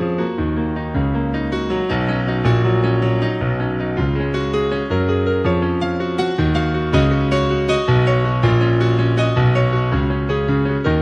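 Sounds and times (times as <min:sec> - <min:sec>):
gentle slow piano piece: 0:00.0 - 0:11.0.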